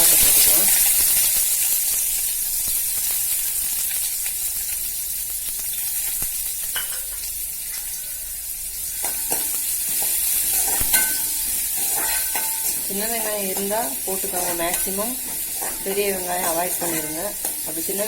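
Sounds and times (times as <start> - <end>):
shallots sizzling in hot oil: 0.0 - 18.0.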